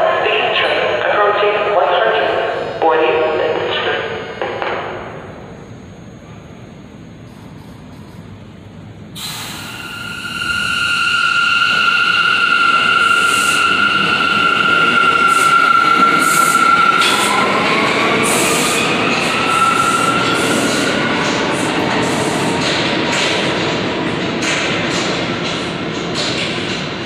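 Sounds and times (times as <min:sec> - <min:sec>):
high-pitched train whine: 0:00.0 - 0:27.0
train wheels rumbling on rail: 0:03.5 - 0:27.0.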